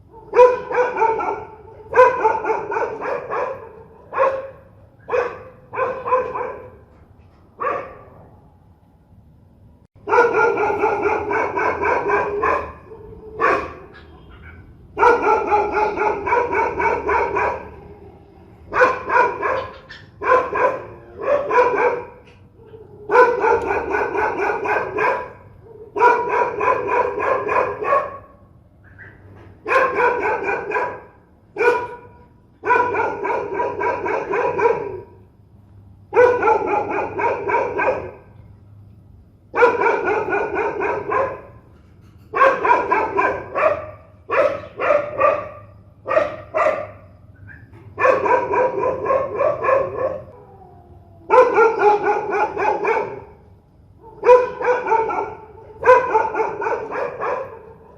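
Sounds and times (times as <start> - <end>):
dog barking fiercely: 0.0 - 7.0, 7.6 - 8.3, 10.0 - 18.0, 18.6 - 35.3, 36.1 - 38.4, 39.4 - 41.7, 42.3 - 50.5, 51.3 - 57.9.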